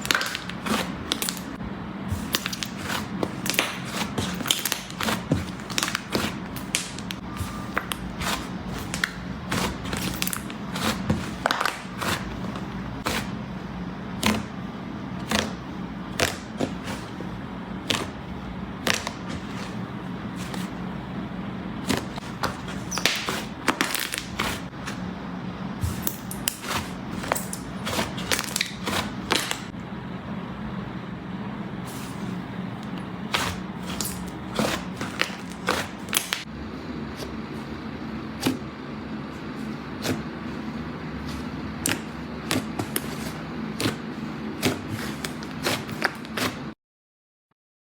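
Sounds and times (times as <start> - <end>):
constant low hum: 0.0 - 46.8.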